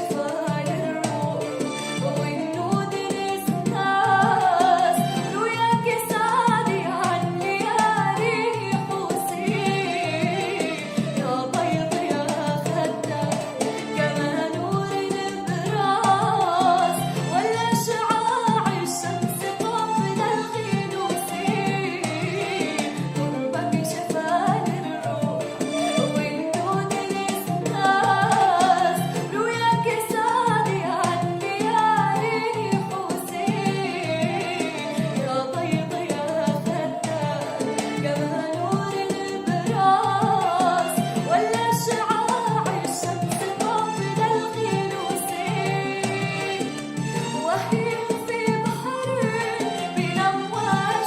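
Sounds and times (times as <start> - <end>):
woman singing ornamented melody: 0.0 - 46.6
drums and backing instruments: 0.0 - 51.0.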